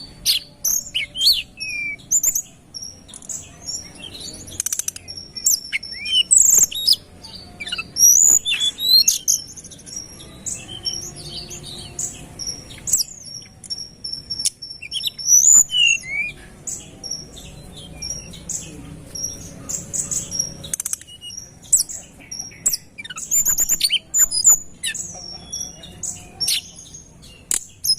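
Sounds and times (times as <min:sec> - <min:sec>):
songbird singing rapid chirps: 0:00.0 - 0:27.9.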